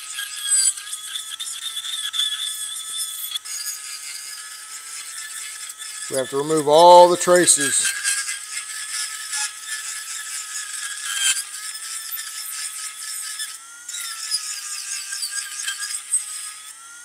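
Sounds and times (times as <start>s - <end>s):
scratchy grinding of solder: 0.0s - 16.7s
rotary tool motor whine: 0.0s - 17.0s.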